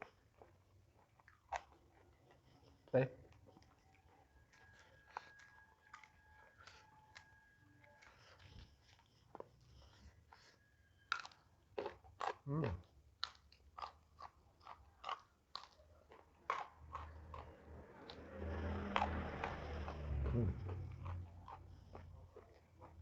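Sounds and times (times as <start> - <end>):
crunching and chewing crisp food: 0.0 - 23.0.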